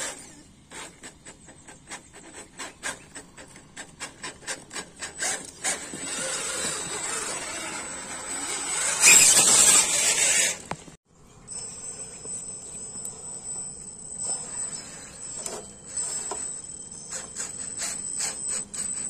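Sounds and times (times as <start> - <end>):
toy crawler motor whining: 0.0 - 10.8, 13.1 - 19.0.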